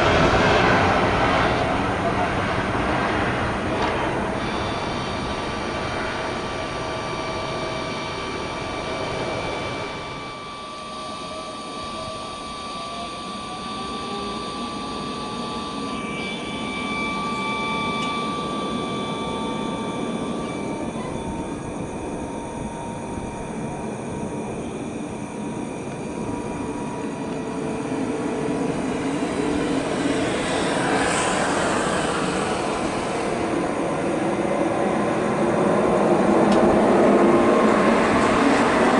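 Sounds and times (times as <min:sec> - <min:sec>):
jet engines whining and rumbling: 0:00.0 - 0:38.9.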